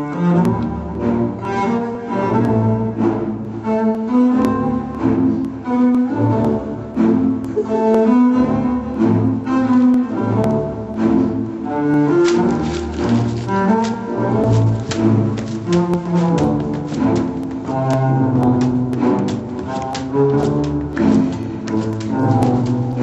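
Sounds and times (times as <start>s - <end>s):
low bowed string melody: 0.0s - 23.0s.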